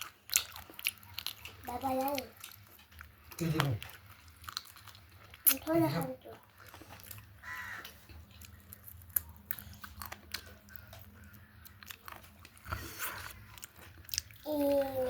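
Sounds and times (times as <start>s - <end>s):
person chewing and crunching food: 0.0s - 15.0s.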